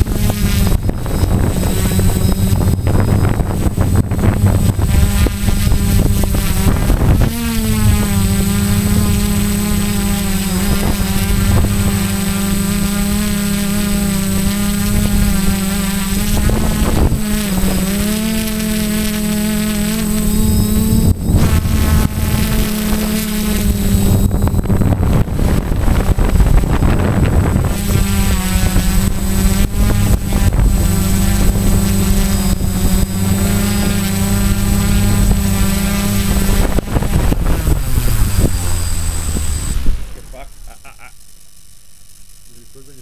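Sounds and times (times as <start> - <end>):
wind on microphone: 0.0 - 40.5
drone propellers buzzing: 0.0 - 43.0.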